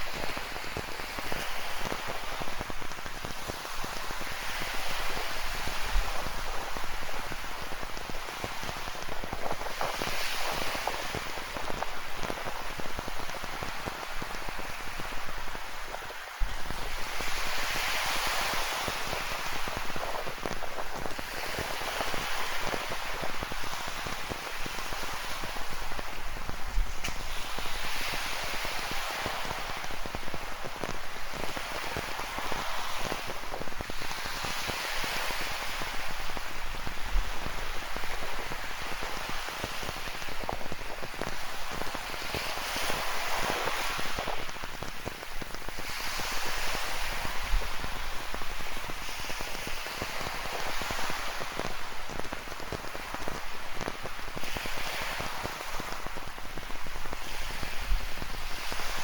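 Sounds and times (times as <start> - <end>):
rain pattering: 0.0 - 45.9, 46.6 - 59.0
waves washing on rocky shore: 0.0 - 59.0.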